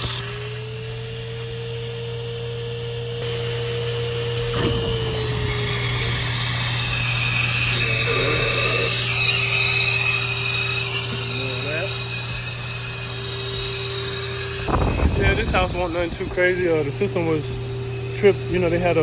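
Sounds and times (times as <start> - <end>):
vacuum motor sucking water: 0.0 - 19.0.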